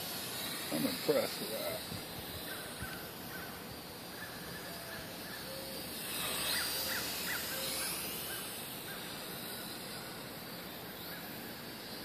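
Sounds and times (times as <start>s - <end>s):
quadcopter propellers whining: 0.0s - 12.0s
birds calling: 0.6s - 11.9s.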